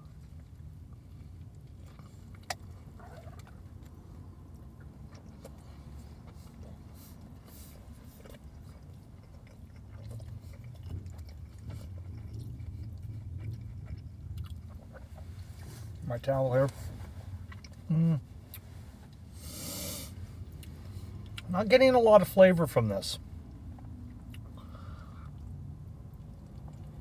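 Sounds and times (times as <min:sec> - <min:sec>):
man chewing: 0:00.0 - 0:16.1, 0:16.7 - 0:21.5, 0:23.4 - 0:27.0
steady low hum: 0:00.0 - 0:27.0.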